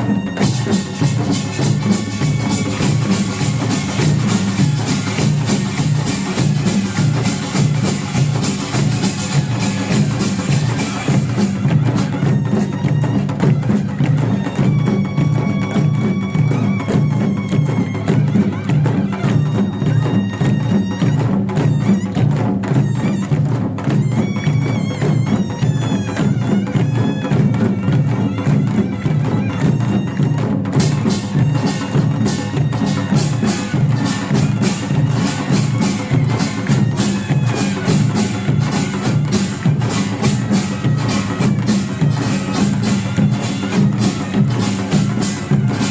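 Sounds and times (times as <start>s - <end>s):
drums beating fast rhythm: 0.0s - 45.9s
nasal shawm melody: 0.0s - 45.9s.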